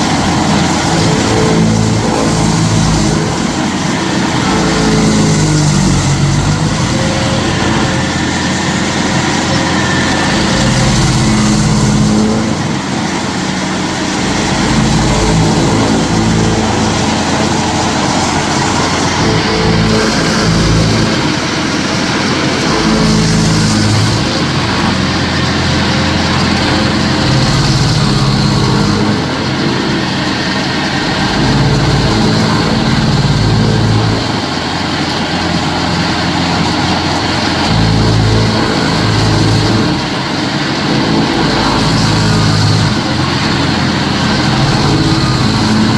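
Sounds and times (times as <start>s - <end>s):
noisy grinding: 0.0s - 45.9s
stump grinder engine wavering: 0.0s - 45.9s.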